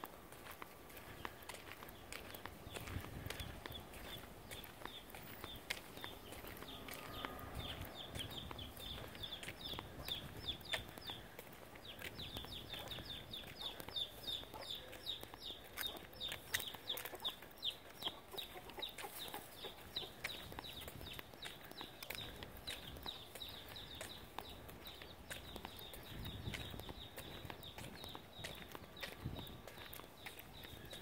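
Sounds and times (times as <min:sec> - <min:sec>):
chickens peeping: 0:00.0 - 0:31.0.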